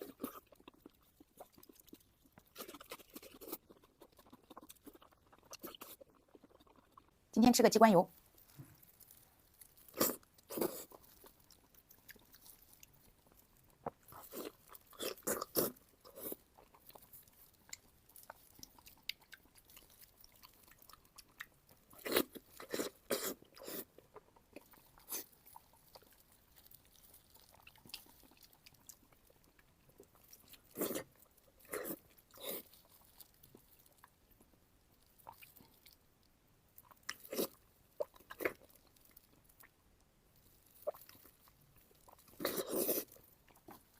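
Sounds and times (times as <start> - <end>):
close chewing mouth sounds: 0.0 - 43.9.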